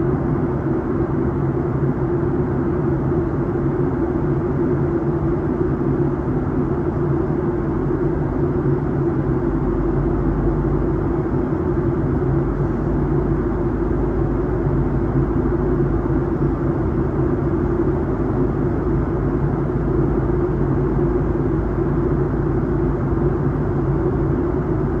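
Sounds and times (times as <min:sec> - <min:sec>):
airliner engine drone: 0:00.0 - 0:25.0
steady hum tones: 0:00.0 - 0:25.0.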